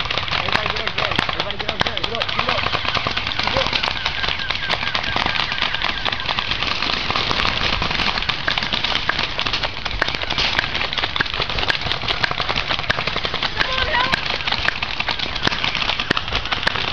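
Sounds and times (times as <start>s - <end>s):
airsoft guns firing: 0.0s - 16.9s
rustling through dry leaves: 2.3s - 16.9s.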